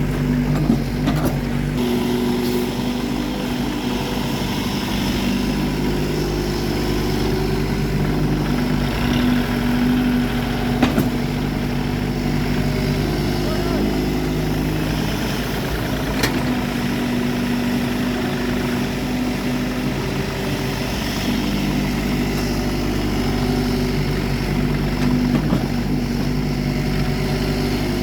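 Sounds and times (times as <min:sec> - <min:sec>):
machine engine idling: 0:00.0 - 0:28.0.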